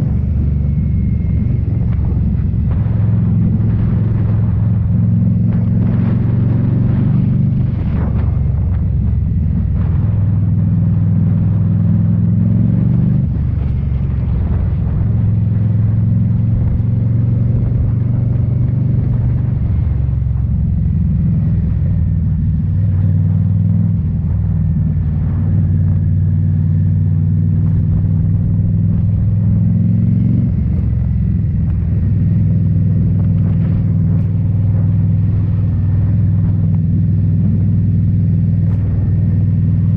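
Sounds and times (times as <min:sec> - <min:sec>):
motorcycle engine deep exhaust: 0:00.0 - 0:39.9.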